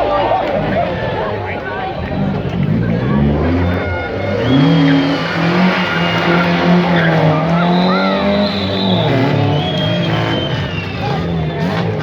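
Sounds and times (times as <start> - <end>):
car engine at high revs: 0.0 - 12.0
tyres squealing: 0.0 - 12.0.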